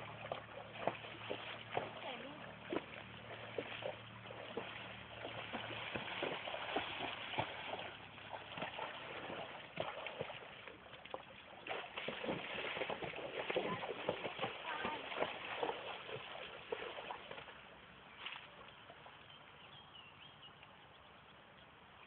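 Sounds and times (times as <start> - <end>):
hooves splashing in water: 0.0 - 21.3.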